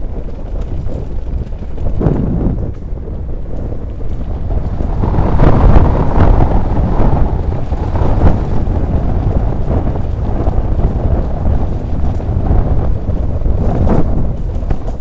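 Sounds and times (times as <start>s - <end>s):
bike rattling over gravel track: 0.0s - 15.0s
wind buffeting microphone: 0.0s - 15.0s.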